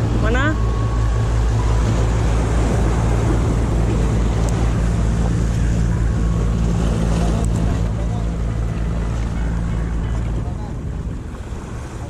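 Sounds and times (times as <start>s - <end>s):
surf washing over concrete: 0.0s - 12.0s
wind rumbling on microphone: 0.0s - 12.0s.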